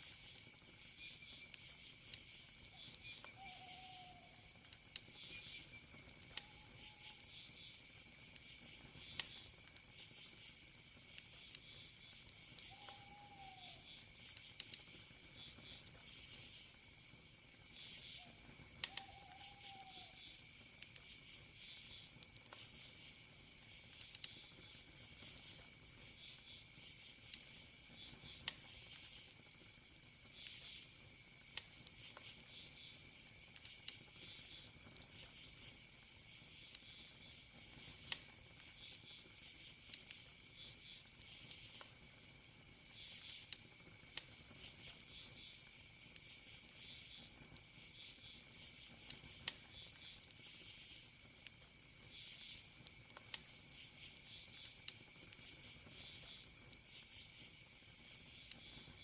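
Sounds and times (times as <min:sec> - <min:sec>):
campfire crackling and popping: 0:00.0 - 0:59.0
crickets chirping: 0:00.0 - 0:59.0
high insect trill: 0:00.0 - 0:59.0.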